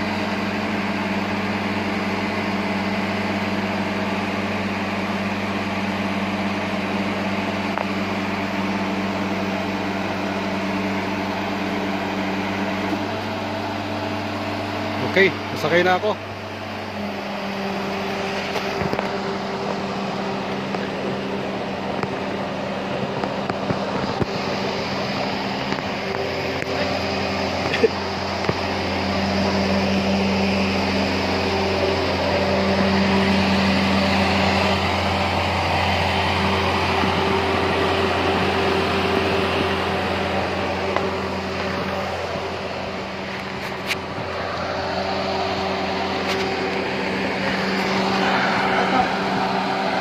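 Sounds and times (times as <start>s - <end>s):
low mechanical engine hum: 0.0s - 50.0s.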